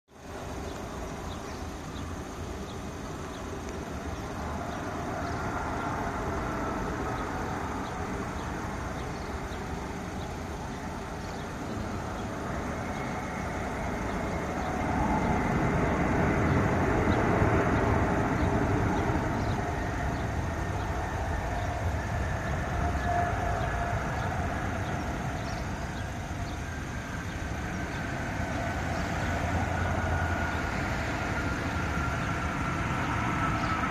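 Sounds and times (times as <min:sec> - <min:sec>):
high fan whine: 0:00.1 - 0:33.9
jet engine rumble: 0:00.1 - 0:33.9.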